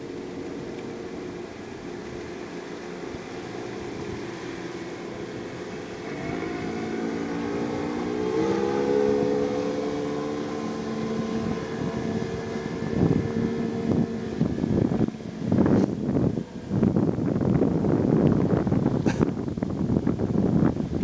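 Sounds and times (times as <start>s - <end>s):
outboard motor passing: 0.0s - 20.1s
wind buffeting microphone: 0.0s - 21.0s.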